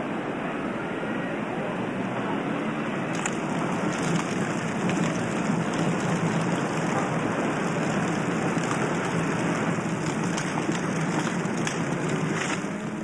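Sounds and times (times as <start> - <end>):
steady rushing noise: 1.8 - 13.0.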